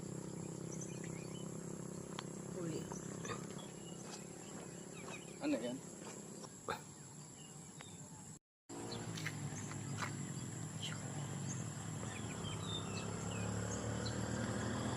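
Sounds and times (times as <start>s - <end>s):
high insect drone: 0.0s - 7.7s, 8.7s - 14.9s.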